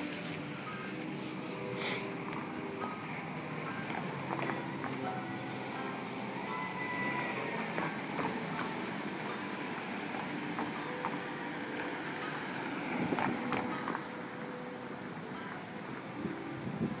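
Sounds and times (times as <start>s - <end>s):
cars idling: 0.0s - 16.5s
street noise: 0.0s - 17.0s.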